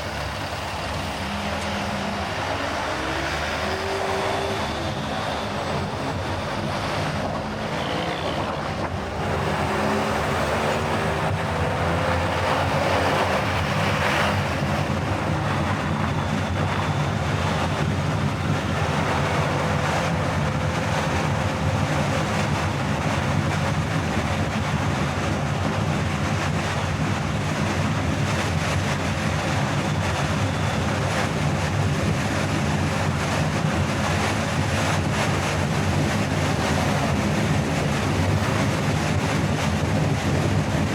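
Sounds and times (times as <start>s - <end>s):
car engine hum: 0.0s - 40.9s
tyre and wind noise: 0.0s - 40.9s.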